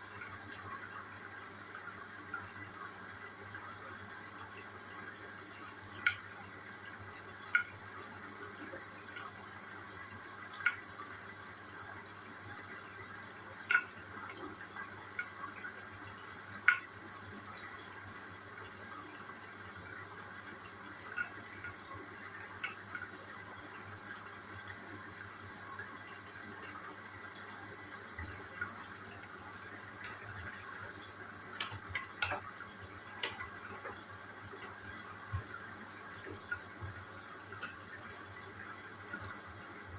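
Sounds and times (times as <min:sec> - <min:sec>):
washing machine filling with water: 0:00.0 - 0:39.9.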